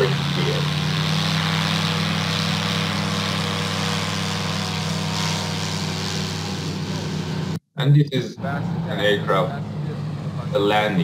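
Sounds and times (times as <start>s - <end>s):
aircraft engine drone: 0.0s - 7.6s, 8.2s - 11.0s.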